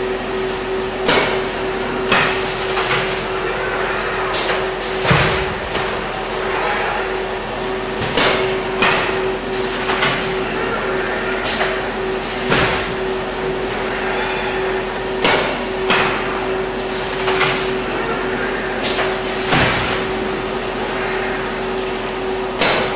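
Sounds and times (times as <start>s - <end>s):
machine hum: 0.0s - 22.9s.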